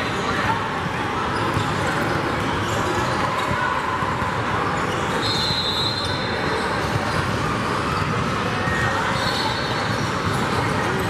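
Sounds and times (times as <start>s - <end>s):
basketball court noise: 0.0s - 11.0s
echoing crowd chatter: 0.0s - 11.0s.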